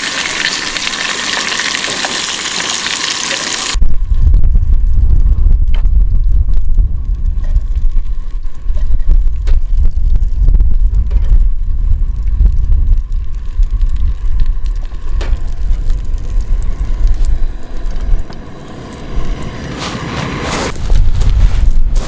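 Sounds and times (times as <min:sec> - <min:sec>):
wind buffeting microphone: 0:03.8 - 0:22.0.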